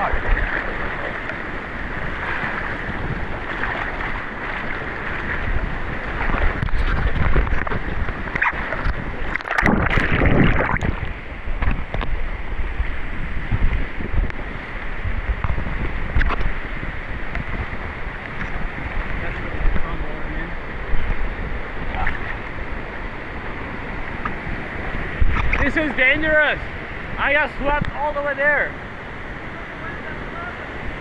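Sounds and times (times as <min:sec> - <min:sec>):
waterfall roaring: 0:00.0 - 0:31.0
wind buffeting microphone: 0:00.0 - 0:31.0.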